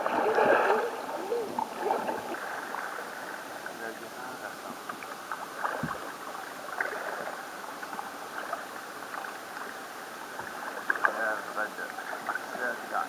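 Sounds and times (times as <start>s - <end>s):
paddle dipping in water: 0.0s - 13.0s
water trickling along hull: 0.0s - 13.0s.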